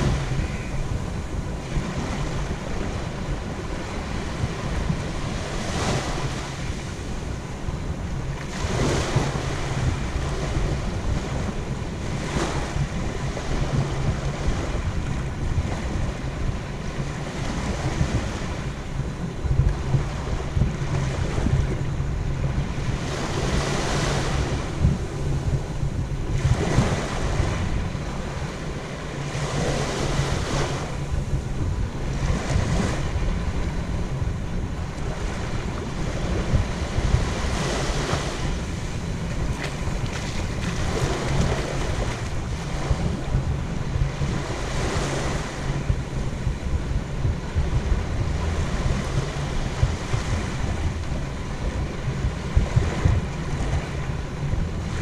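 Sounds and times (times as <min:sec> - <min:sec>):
surf washing up on beach: 0:00.0 - 0:55.0
wind rumble on microphone: 0:00.0 - 0:55.0.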